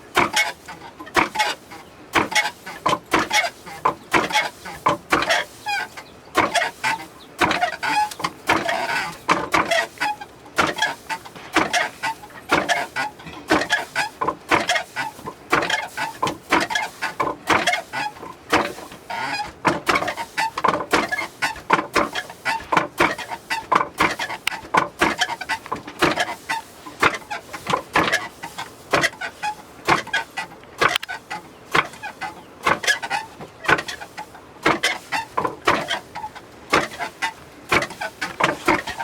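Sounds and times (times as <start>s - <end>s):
chickens clucking: 0.0s - 39.0s
hand mill grinding and knocking: 0.0s - 39.0s.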